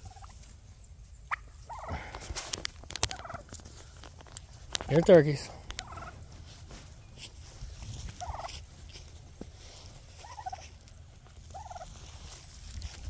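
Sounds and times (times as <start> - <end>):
turkeys warbling calls: 0.0 - 13.0.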